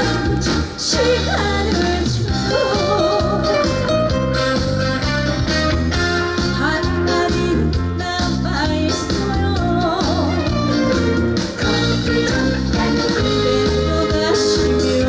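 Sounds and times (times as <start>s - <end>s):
woman singing: 0.0s - 3.9s, 6.5s - 15.0s
backing music with steady beat: 0.0s - 15.0s.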